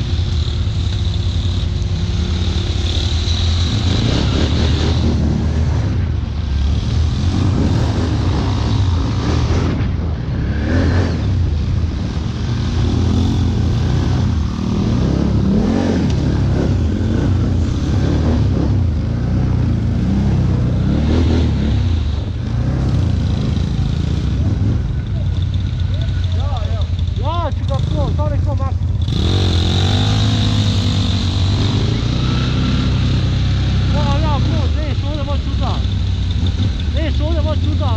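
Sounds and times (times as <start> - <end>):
quad bike engine revving: 0.0 - 37.9.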